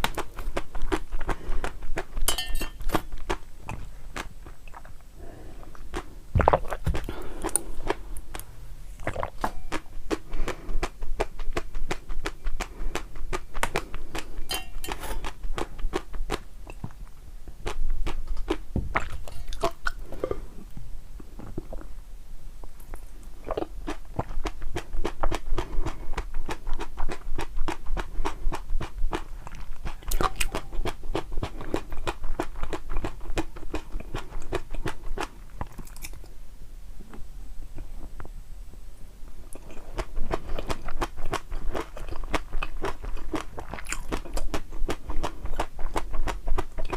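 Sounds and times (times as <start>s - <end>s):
person chewing crunchy food: 0.0s - 20.6s, 22.9s - 36.3s, 39.5s - 46.9s.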